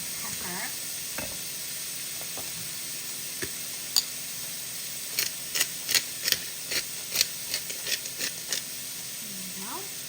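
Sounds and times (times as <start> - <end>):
beef sizzling in a pot: 0.0 - 10.0.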